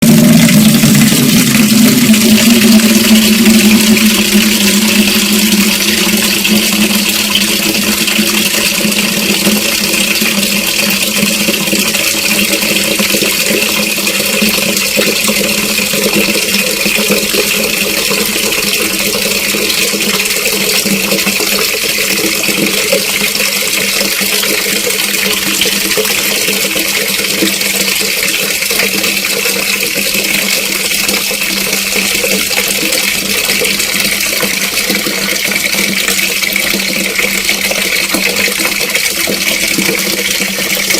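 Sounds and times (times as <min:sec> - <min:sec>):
tap water filling a bucket: 0:00.0 - 0:40.9.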